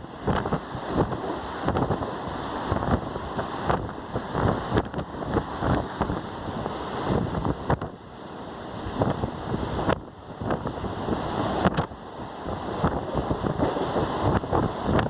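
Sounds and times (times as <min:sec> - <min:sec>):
train running noise: 0:00.0 - 0:15.0
wind buffeting microphone: 0:00.0 - 0:15.0.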